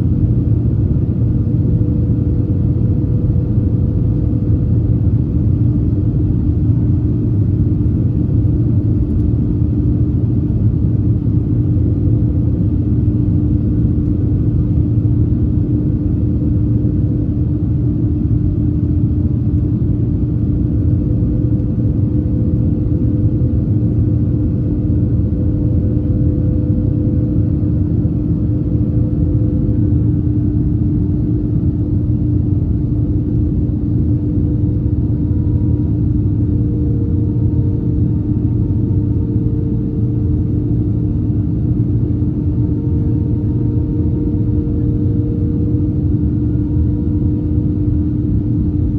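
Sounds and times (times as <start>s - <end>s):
airplane cabin engine rumble: 0.0s - 48.9s
steady hum: 0.0s - 48.9s.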